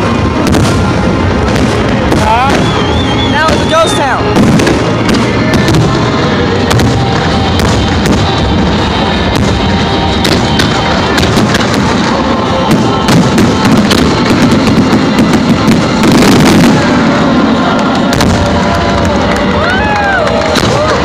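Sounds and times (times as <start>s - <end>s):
fireworks cracks and bangs: 0.0s - 21.0s
music playing: 0.0s - 21.0s.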